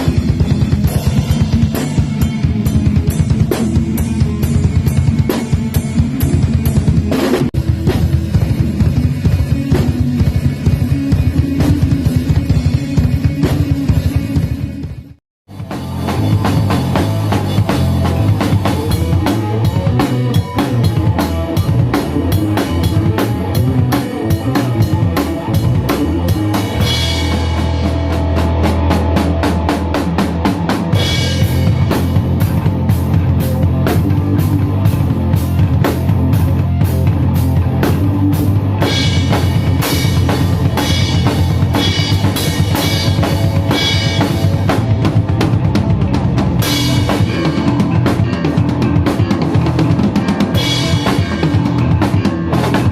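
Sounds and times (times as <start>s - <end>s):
drum kit rock groove: 0.0s - 52.9s.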